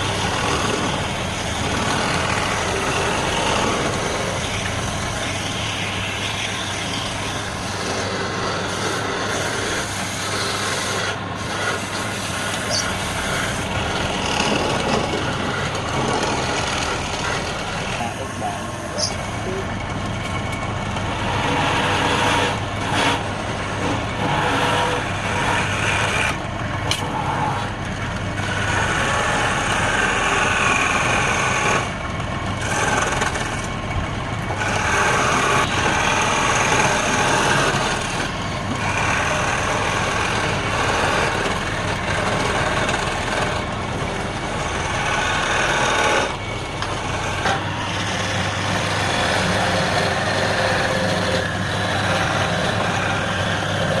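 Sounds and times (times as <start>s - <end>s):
turning tool cutting wood: 0.0s - 54.0s
wood lathe hum: 0.0s - 54.0s.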